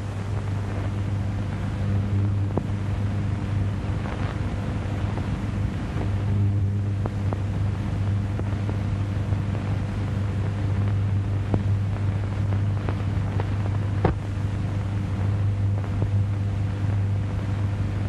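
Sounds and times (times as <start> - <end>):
film soundtrack hum and hiss: 0.0 - 18.0.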